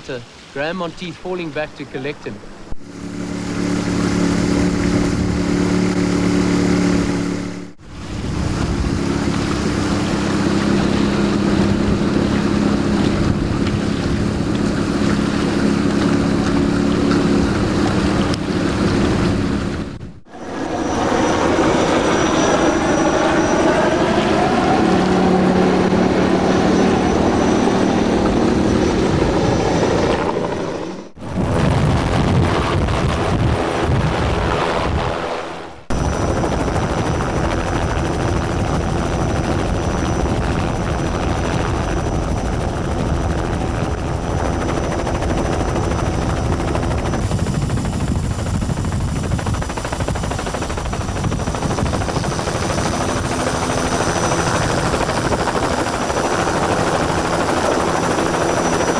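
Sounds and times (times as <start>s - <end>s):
helicopter rotor and engine: 0.6s - 58.9s.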